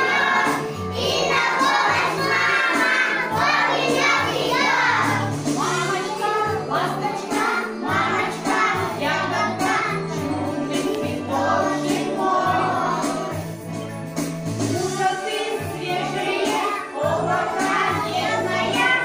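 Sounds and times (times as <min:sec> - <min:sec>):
children singing together: 0:00.0 - 0:13.5, 0:14.7 - 0:19.0.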